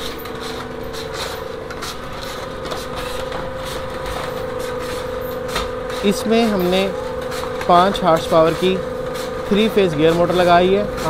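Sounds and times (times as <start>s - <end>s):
heavy churning of sand: 0.0s - 11.0s
motor hum: 0.0s - 11.0s.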